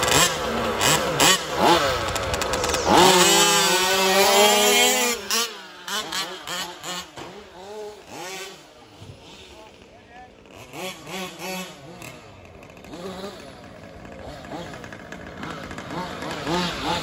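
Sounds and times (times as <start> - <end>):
rc truck engines revving: 0.0 - 17.0.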